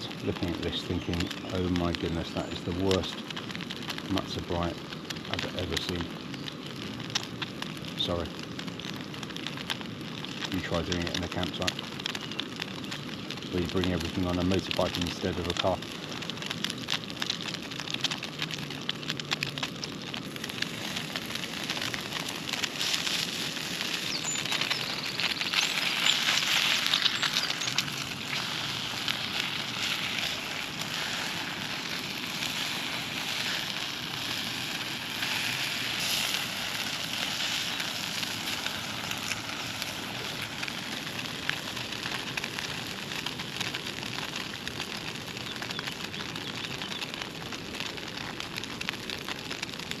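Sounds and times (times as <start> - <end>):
batter sizzling in a frying pan: 0.0 - 50.0.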